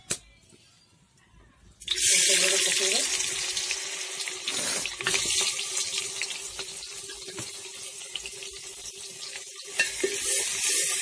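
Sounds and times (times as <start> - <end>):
onions sizzling in hot oil: 1.9 - 11.0.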